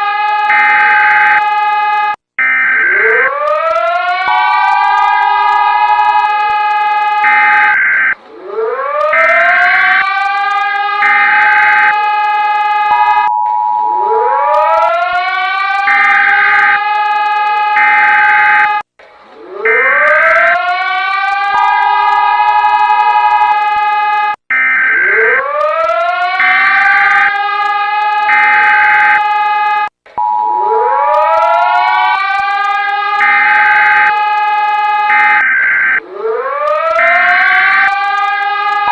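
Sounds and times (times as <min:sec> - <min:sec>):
siren winding up: 0:00.0 - 0:18.8, 0:19.4 - 0:38.9.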